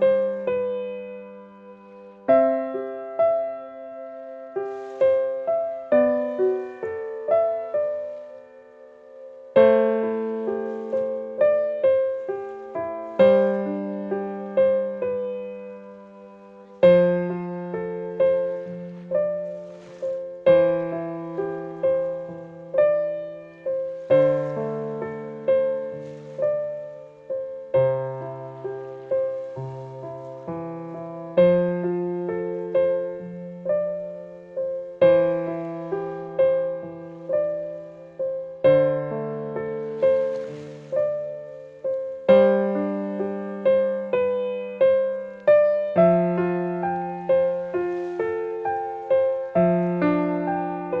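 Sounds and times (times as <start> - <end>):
gentle solo piano music: 0.0 - 51.0.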